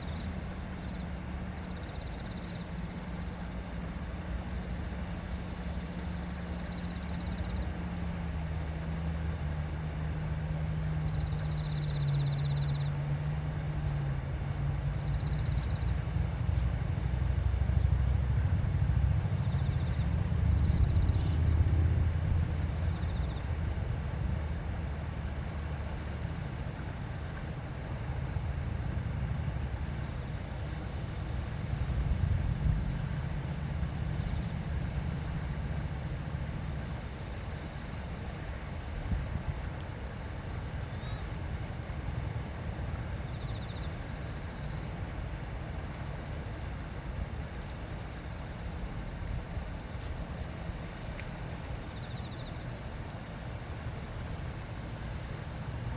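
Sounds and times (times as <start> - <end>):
low engine-like hum: 0.0 - 55.9
river water babbling: 0.0 - 55.9.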